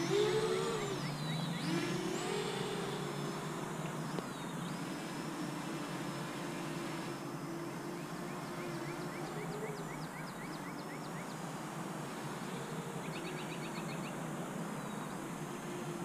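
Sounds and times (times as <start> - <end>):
songbirds chirping: 0.0 - 16.0
steady low hum: 0.0 - 16.0.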